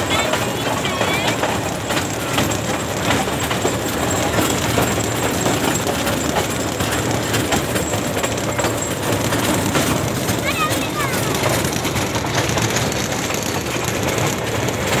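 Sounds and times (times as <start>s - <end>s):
miniature train rattling: 0.0s - 15.0s
wheels clicking over rail joints: 0.0s - 15.0s.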